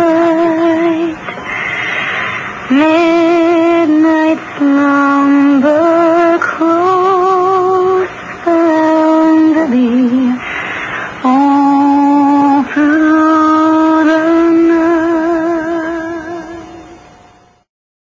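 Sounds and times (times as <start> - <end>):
woman singing slow melody: 0.0 - 17.2.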